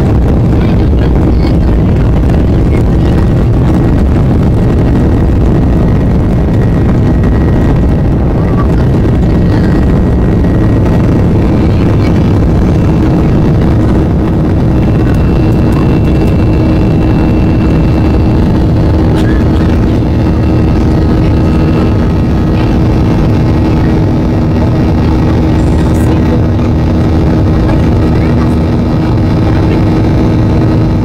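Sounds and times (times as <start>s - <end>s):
jet engine and airflow noise: 0.0s - 31.0s
steady hum: 0.0s - 31.0s.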